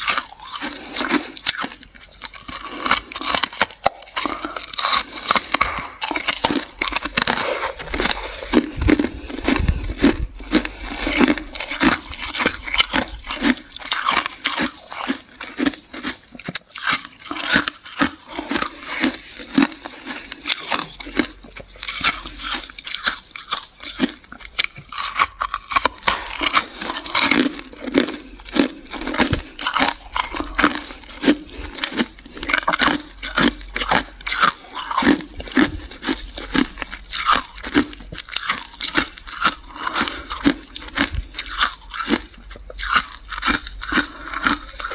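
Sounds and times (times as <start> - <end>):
frost being chewed with crunches: 0.0 - 44.9.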